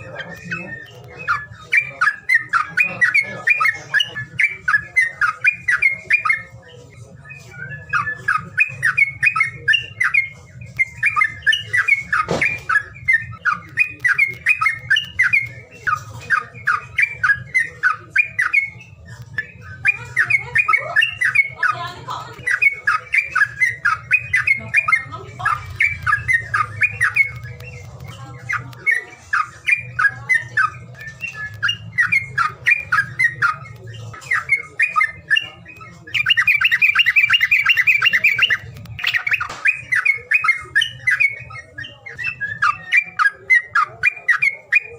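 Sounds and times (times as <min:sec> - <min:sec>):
songbird chattering and trilling: 0:00.0 - 0:44.9.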